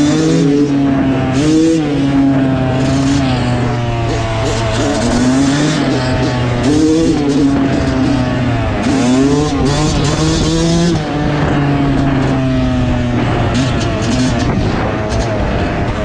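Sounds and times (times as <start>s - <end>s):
dirt bike engine revving: 0.0s - 16.0s
wind noise on microphone: 0.0s - 16.0s.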